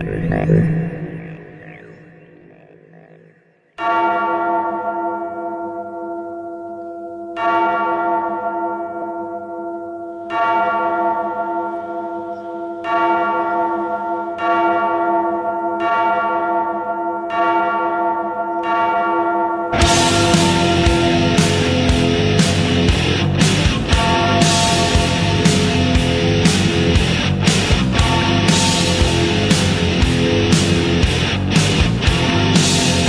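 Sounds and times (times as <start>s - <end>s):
large church bell tolling: 3.8s - 27.3s, 27.9s - 31.0s.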